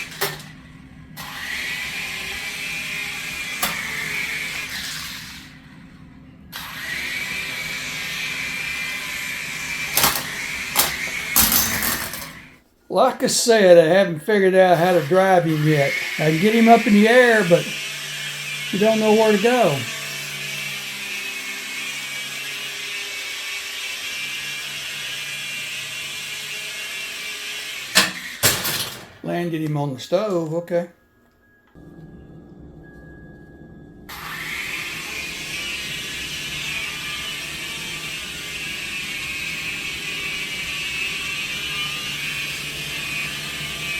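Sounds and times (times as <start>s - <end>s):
toy helicopter rotors whining: 0.0s - 12.5s, 13.9s - 29.1s, 34.1s - 43.9s.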